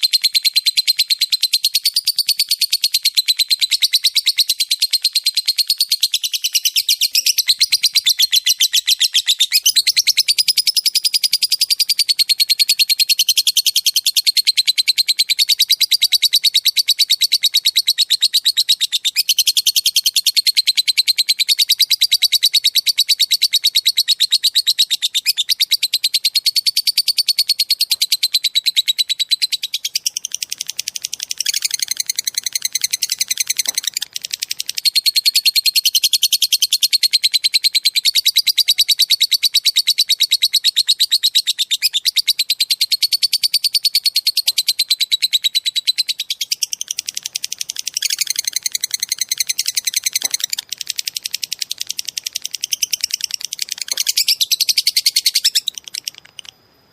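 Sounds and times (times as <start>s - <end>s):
songbird fast high trill: 0.0s - 56.9s.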